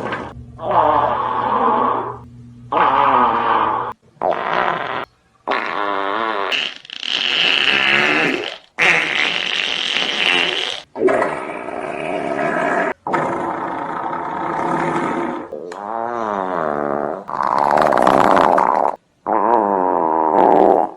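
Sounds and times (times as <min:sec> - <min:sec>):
fart sound effects: 0:00.0 - 0:20.9.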